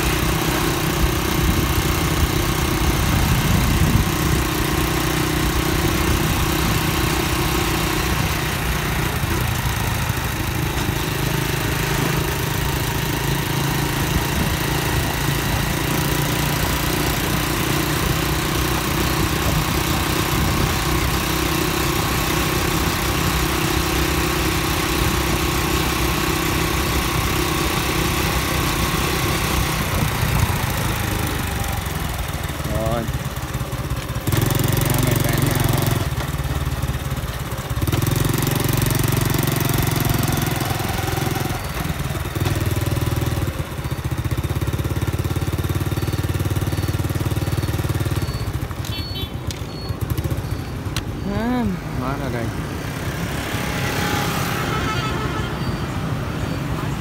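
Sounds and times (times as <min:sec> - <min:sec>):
motorcycle engine running: 0:00.0 - 0:55.7
wind and road noise: 0:00.0 - 0:57.0.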